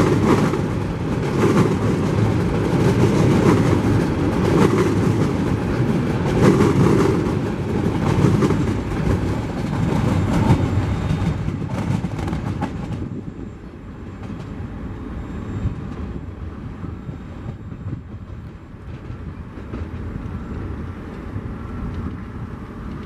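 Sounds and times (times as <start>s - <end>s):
train wheel clicks on rails: 0.0s - 13.2s, 17.7s - 23.0s
low train rumble: 0.0s - 23.0s.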